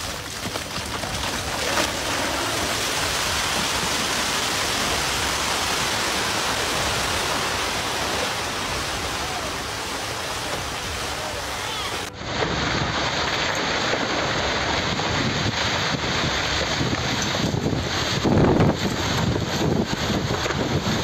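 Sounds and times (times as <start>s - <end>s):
rockslide rushing: 0.0s - 21.0s.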